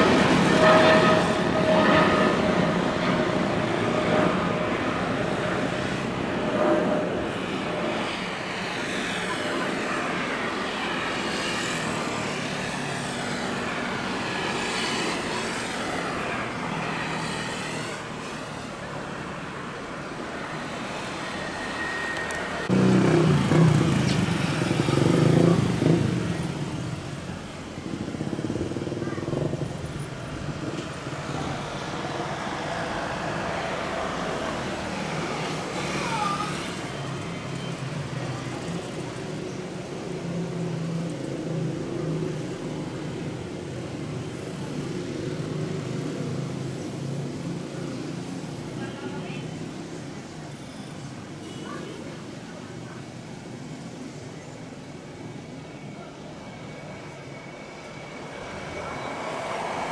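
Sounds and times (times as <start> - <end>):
distant jet engines rushing: 0.0 - 51.3, 52.4 - 59.9.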